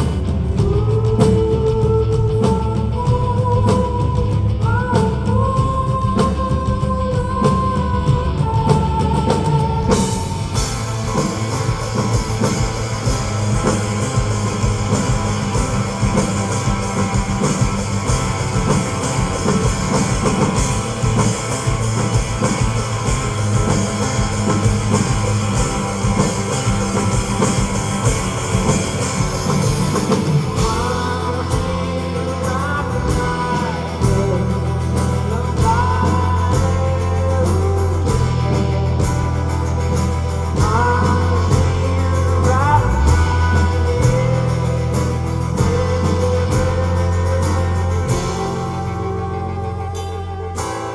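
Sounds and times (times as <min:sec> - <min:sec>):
drums and cymbals: 0:00.0 - 0:50.9
live rock band: 0:00.0 - 0:50.9
person singing: 0:00.0 - 0:50.9.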